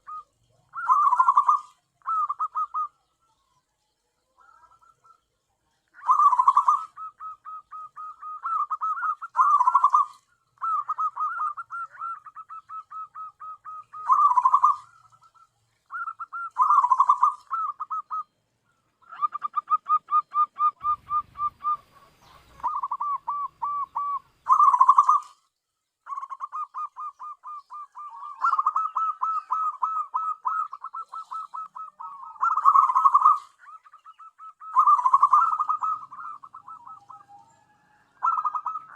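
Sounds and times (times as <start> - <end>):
dove cooing: 0.0 - 3.6, 4.2 - 18.3, 19.0 - 38.9.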